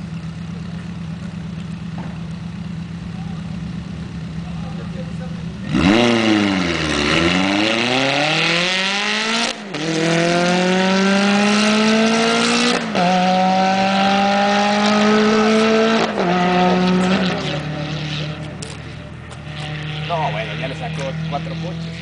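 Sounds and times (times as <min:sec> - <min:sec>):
sports car engines accelerating hard: 0:00.0 - 0:22.0.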